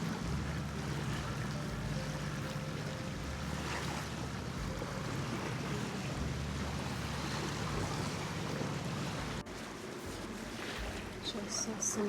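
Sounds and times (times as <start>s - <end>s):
water sounds: 0.0s - 12.0s.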